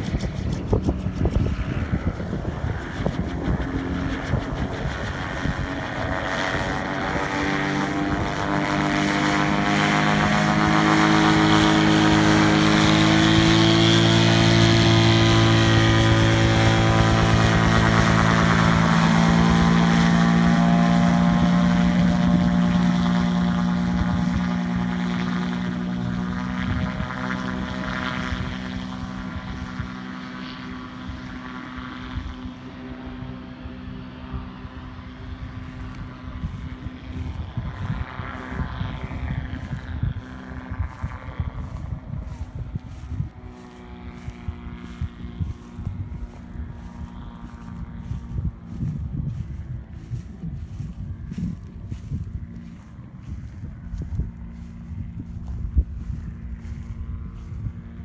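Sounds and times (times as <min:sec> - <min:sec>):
gyroplane engine and propeller drone: 0:00.0 - 0:58.0.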